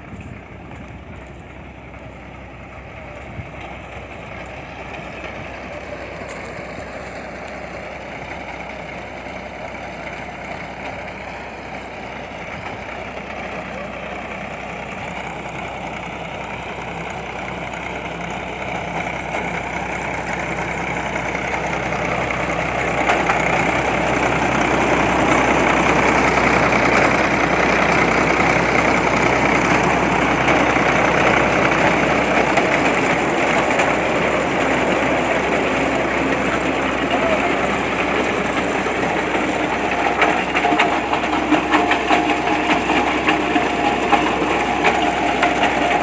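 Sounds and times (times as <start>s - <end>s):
drilling rig engine running: 0.0s - 46.0s.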